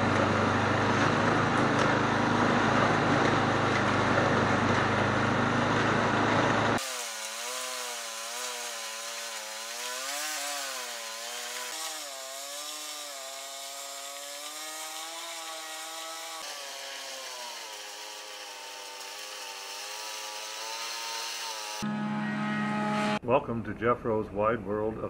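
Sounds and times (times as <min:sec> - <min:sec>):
snowblower engine running: 0:00.0 - 0:23.2.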